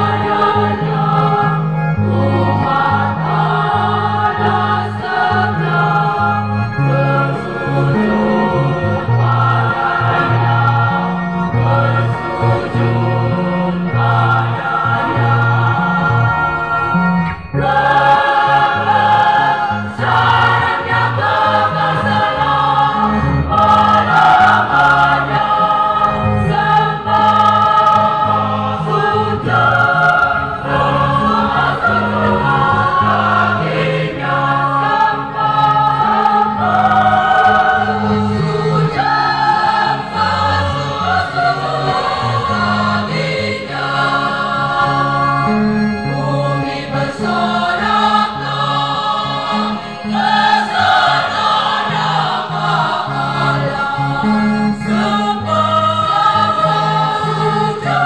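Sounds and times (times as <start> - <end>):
choir singing a hymn: 0.0 - 58.0
guitar accompaniment: 0.0 - 58.0.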